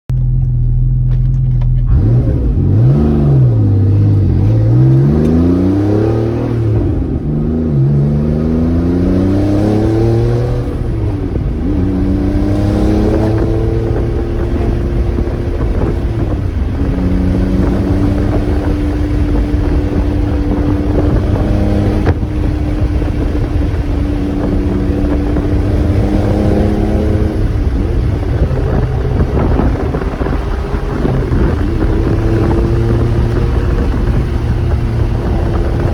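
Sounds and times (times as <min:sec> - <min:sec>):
car engine accelerating through gears: 0:00.1 - 0:35.9.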